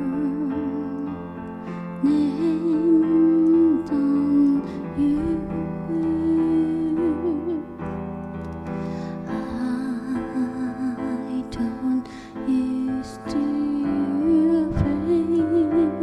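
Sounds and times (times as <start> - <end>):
person singing: 0.0 - 8.0, 9.2 - 16.0
sustained keyboard chords: 0.0 - 16.0.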